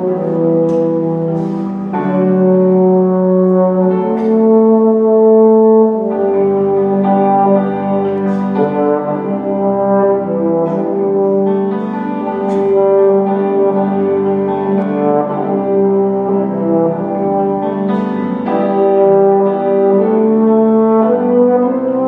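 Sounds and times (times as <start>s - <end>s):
orchestra playing long held notes: 0.0s - 22.0s.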